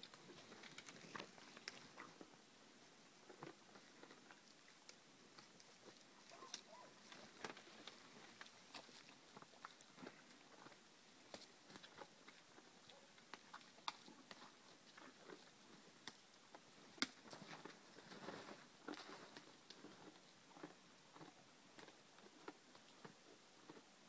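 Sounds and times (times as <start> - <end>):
moose chewing twigs: 0.0 - 2.4, 3.2 - 23.9.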